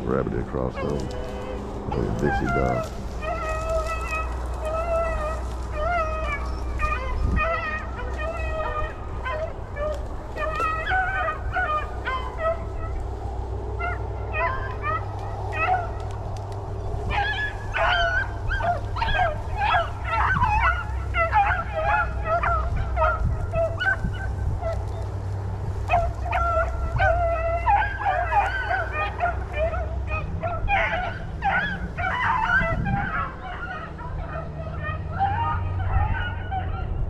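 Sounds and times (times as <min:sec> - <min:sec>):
hounds baying in chorus: 0:00.0 - 0:37.0.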